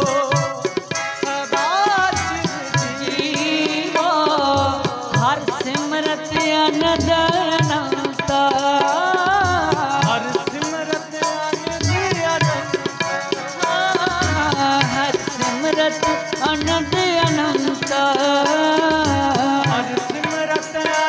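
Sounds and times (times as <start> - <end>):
harmonium melody and drone: 0.0 - 21.0
person singing ornamented line: 0.0 - 21.0.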